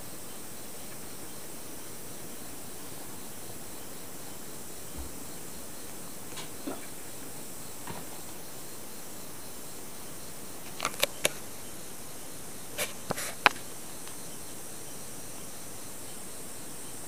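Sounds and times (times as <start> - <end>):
recording hiss: 0.0 - 17.0.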